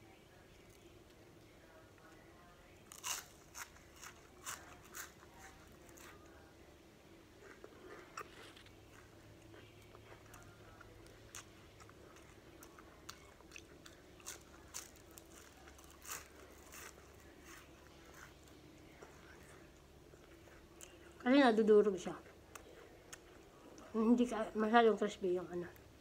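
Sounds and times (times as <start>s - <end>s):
chewing crispy fried leaves: 0.3s - 24.2s.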